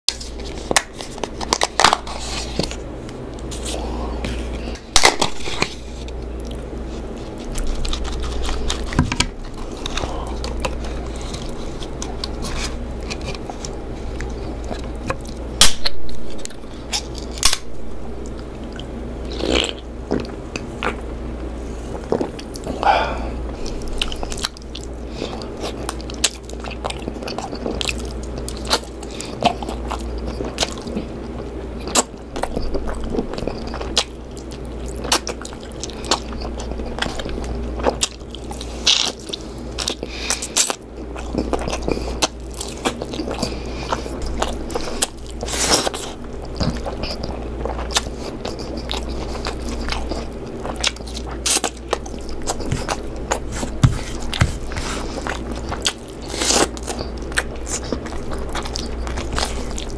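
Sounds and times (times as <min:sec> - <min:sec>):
person chewing food: 0:00.1 - 0:59.9
steady low hum: 0:00.1 - 0:59.9.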